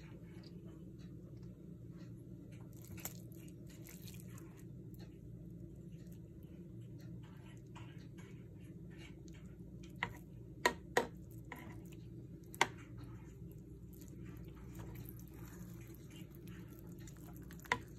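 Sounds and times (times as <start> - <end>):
soft wet squishing: 0.0 - 17.9.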